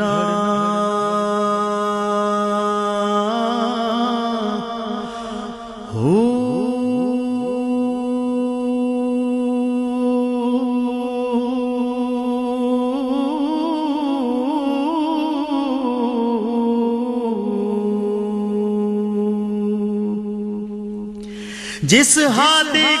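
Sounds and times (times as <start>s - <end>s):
man singing wordless held notes: 0.0s - 23.0s.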